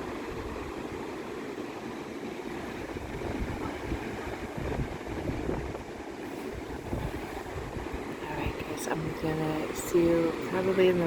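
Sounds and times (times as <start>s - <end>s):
wind gusting over microphone: 0.0s - 1.3s, 2.4s - 11.0s
ocean waves breaking: 0.0s - 11.0s.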